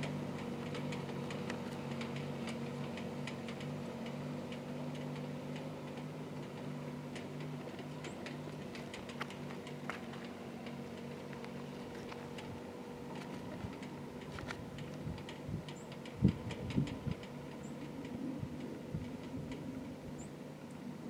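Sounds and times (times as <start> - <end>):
light clicks and rattles: 0.0 - 20.0
vehicle engine running: 0.0 - 21.0.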